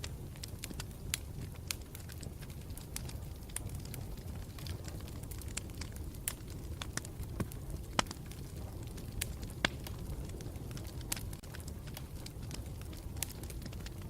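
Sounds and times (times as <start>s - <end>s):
burning wood crackling and popping: 0.0s - 14.0s
campfire rumbling: 0.0s - 14.0s.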